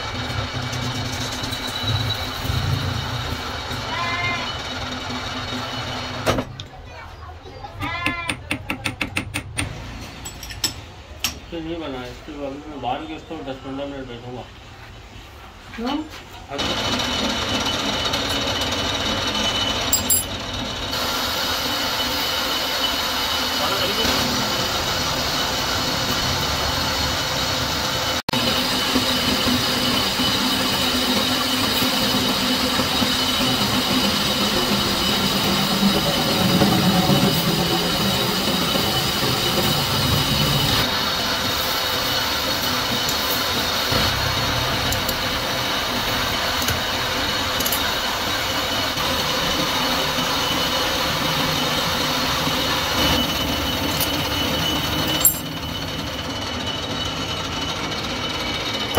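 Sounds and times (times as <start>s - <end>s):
metal lathe cutting steel: 0.0s - 6.3s, 16.5s - 58.9s
high machine whine: 0.0s - 6.5s, 16.5s - 58.9s.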